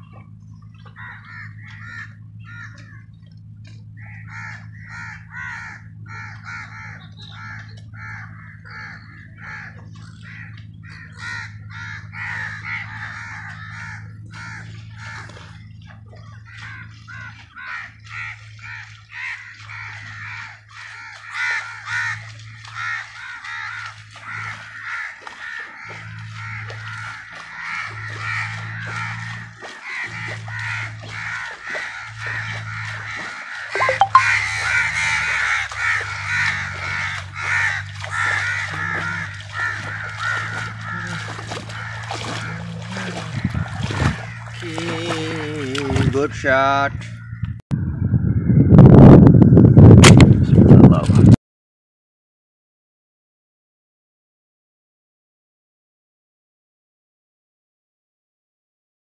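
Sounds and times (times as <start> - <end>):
low pulsing hum: 0.0 - 46.2, 46.9 - 51.4
birds cawing and chattering: 0.0 - 47.6.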